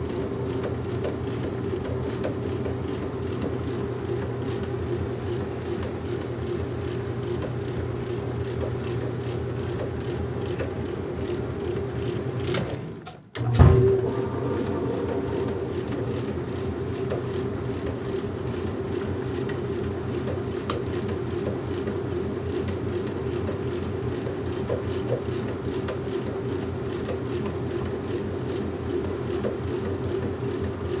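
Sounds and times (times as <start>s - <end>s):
washing machine running: 0.0s - 31.0s.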